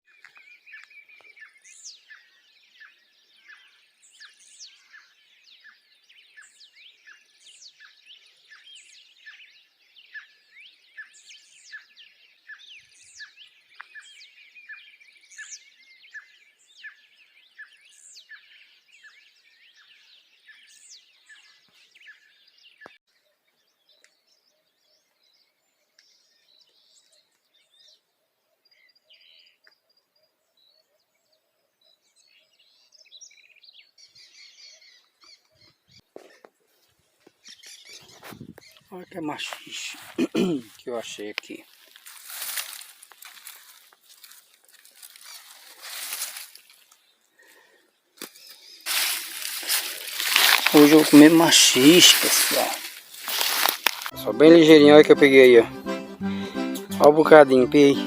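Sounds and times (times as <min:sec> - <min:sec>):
birds chirping and singing: 0:00.1 - 0:58.0.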